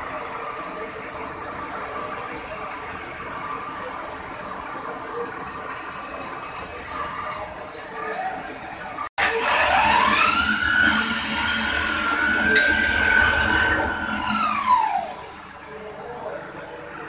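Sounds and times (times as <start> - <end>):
lathe machine hum with hiss: 0.0 - 17.0.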